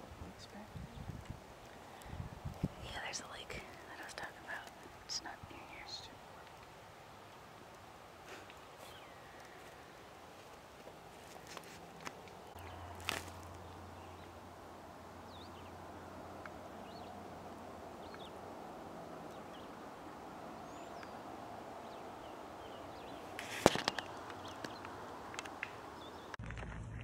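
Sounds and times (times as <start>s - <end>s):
background hiss: 0.0s - 26.4s
small birds chirping: 0.3s - 26.4s.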